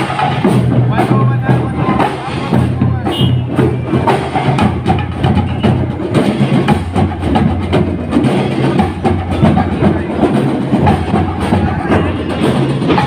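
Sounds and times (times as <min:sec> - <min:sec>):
drum and lyre corps marching tune: 0:00.0 - 0:13.0
drums beating steady rhythm: 0:00.0 - 0:13.0.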